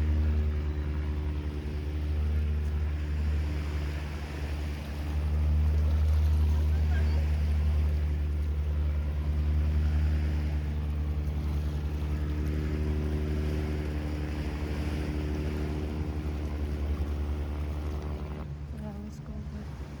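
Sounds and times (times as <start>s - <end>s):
motorboat engine droning: 0.0s - 20.0s
surf: 0.0s - 20.0s
wind: 0.0s - 20.0s.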